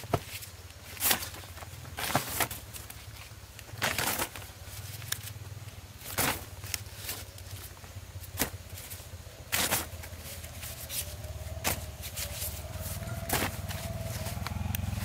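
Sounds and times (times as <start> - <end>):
plastic sack rustling: 0.0 - 15.0.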